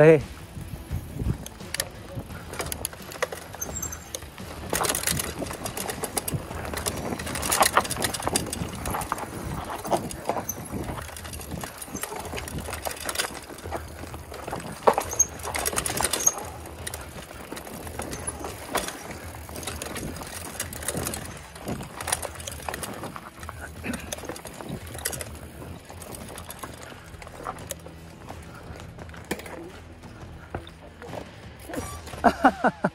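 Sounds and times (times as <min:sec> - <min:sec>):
bike tyres rumbling over dirt: 0:00.0 - 0:32.7
bike clattering and rattling: 0:00.0 - 0:32.9.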